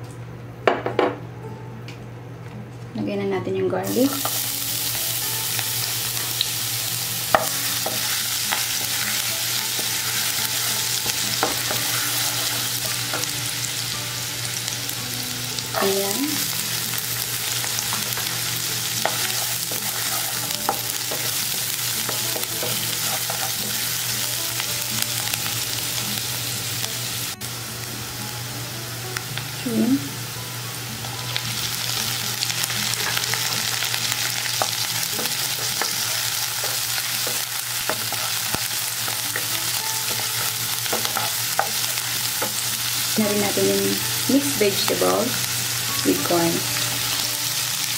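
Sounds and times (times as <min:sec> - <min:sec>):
garlic and onion sizzling in oil: 0:03.8 - 0:47.9.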